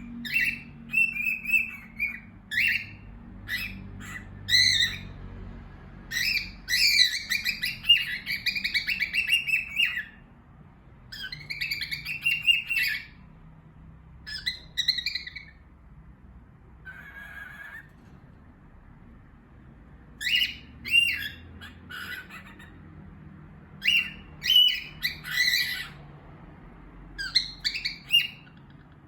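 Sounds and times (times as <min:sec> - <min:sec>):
parrots chattering: 0:00.0 - 0:10.4, 0:11.0 - 0:15.8, 0:16.6 - 0:18.9, 0:20.0 - 0:29.0.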